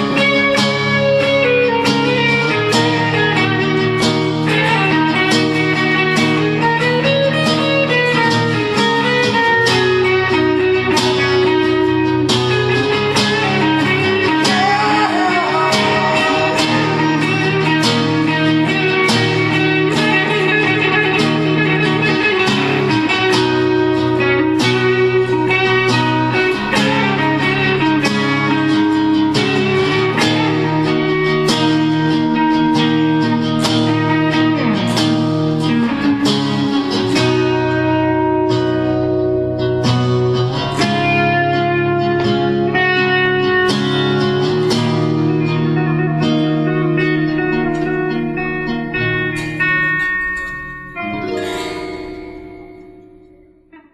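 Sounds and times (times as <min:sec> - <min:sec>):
lead guitar with bent notes: 0:00.0 - 0:53.9
plucked guitar chords: 0:00.0 - 0:53.9.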